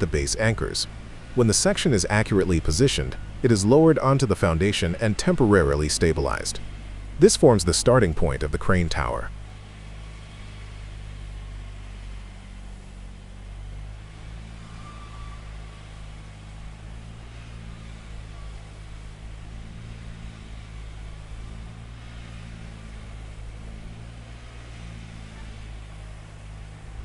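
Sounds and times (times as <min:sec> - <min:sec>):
crane engine droning: 0:00.0 - 0:27.0.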